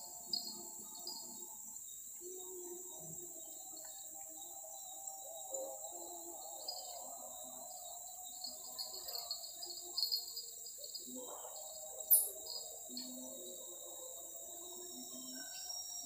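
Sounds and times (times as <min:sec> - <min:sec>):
insects droning: 0:00.0 - 0:16.0
rapid cricket chirping: 0:00.0 - 0:16.0.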